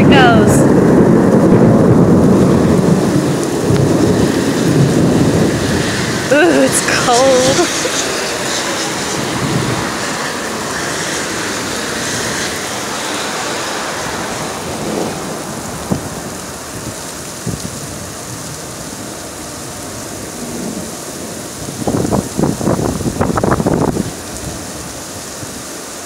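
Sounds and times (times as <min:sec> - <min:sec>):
thunder rumbling: 0:00.0 - 0:25.6
heavy rain pouring: 0:00.0 - 0:26.0.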